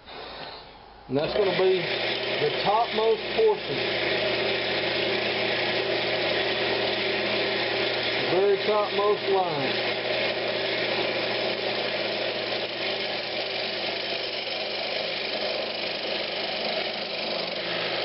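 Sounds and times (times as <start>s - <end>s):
woodturning lathe running: 1.2s - 18.0s.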